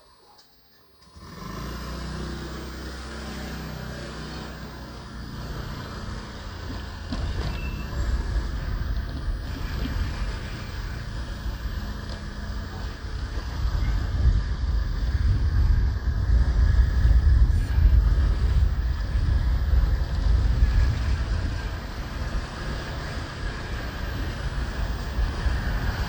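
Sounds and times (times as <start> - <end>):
street traffic: 0.4 - 26.0
motorbike engine running: 1.0 - 26.0.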